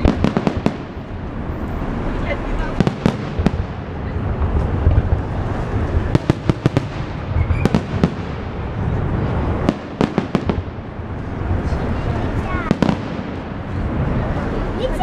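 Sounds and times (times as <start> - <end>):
fireworks bangs and cracks: 0.0 - 15.0
low background noise: 0.0 - 15.0.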